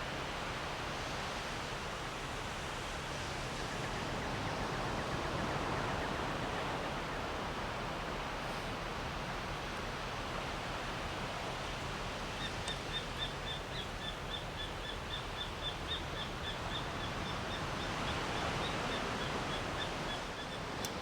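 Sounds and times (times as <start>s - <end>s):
ocean surf: 0.0s - 21.0s.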